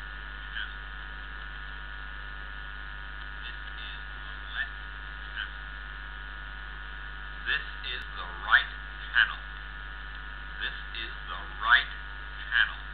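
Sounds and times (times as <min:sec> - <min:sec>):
electrical mains hum: 0:00.0 - 0:12.9.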